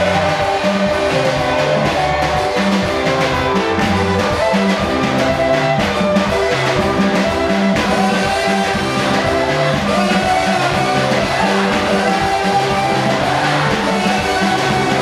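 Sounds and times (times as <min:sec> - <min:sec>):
live gospel band playing: 0:00.0 - 0:15.0.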